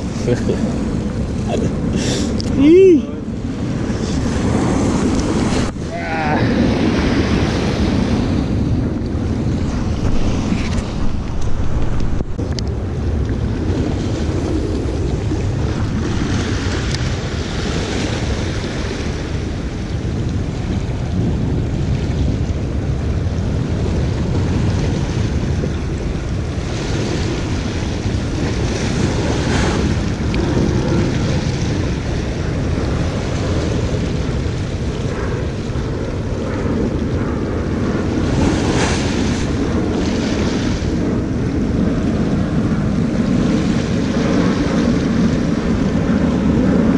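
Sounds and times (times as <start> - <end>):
waves splashing against rocks: 0.0 - 46.9
wind buffeting microphone: 0.0 - 46.9.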